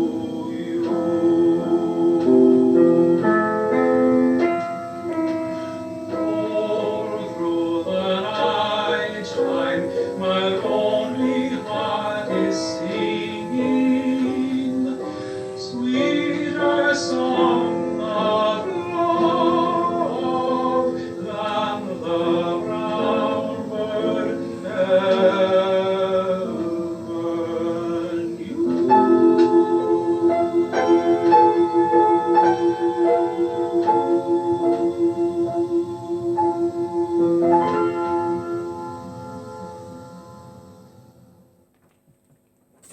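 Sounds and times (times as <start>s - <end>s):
person singing classical: 0.0s - 40.1s
piano accompaniment: 0.0s - 42.9s.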